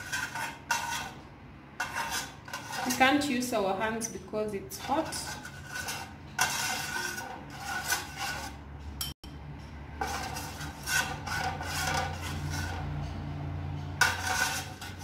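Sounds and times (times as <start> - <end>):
metal spoon scraping metal pan: 0.0 - 15.0.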